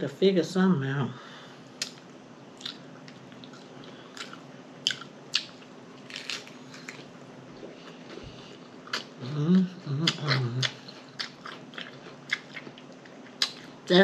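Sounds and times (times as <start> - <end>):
person chewing: 2.6 - 13.8.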